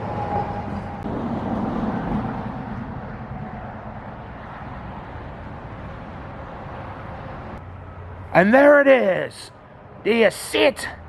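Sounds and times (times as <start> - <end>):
steady traffic hum: 0.0 - 11.0
vehicle passing: 0.0 - 11.0.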